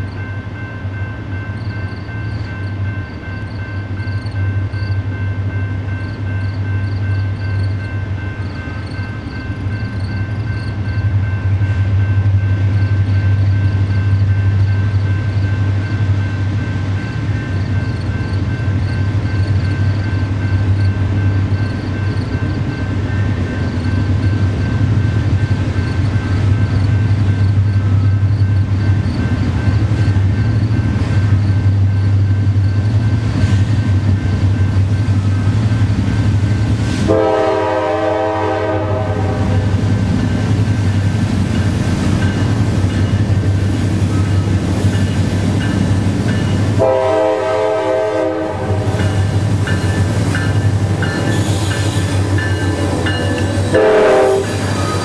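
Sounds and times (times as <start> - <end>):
diesel locomotives rumbling: 0.0 - 55.0.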